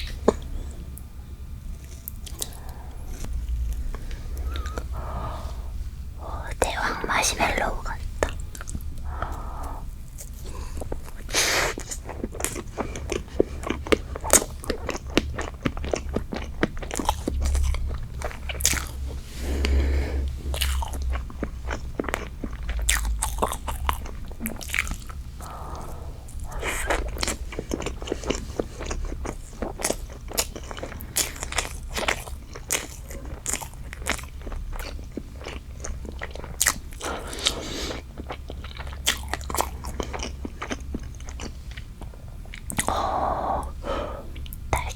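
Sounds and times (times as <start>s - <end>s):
chewing soft dessert: 0.0s - 44.9s.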